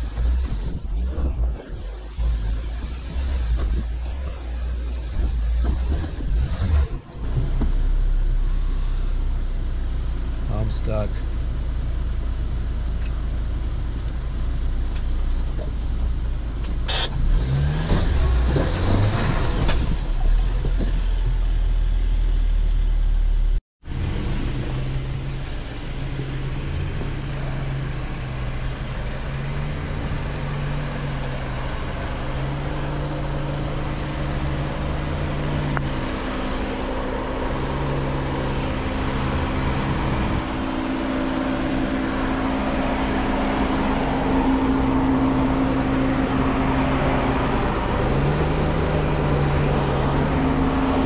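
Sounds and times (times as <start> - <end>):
engine running at low revs: 0.0 - 51.0.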